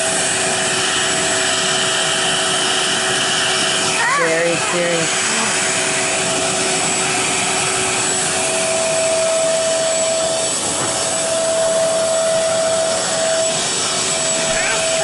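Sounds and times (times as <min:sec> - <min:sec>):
suction motor rushing and whining: 0:00.0 - 0:15.0.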